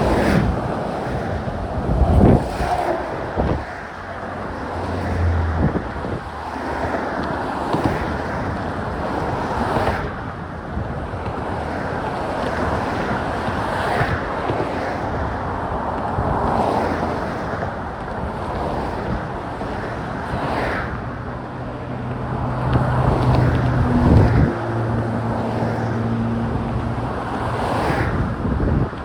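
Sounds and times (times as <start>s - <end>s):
low traffic hum: 0.0s - 29.0s
wind on microphone: 0.0s - 29.0s.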